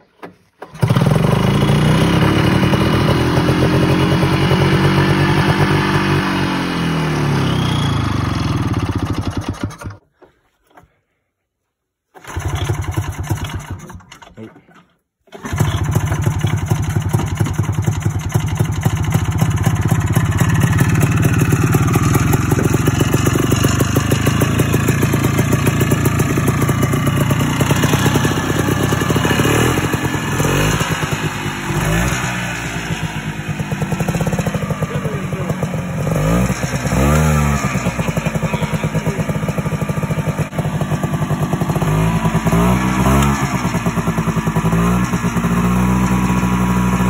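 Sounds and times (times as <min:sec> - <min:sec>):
two-stroke snowmobile engine running: 0:00.6 - 0:10.0, 0:12.2 - 0:14.4, 0:15.3 - 0:47.0.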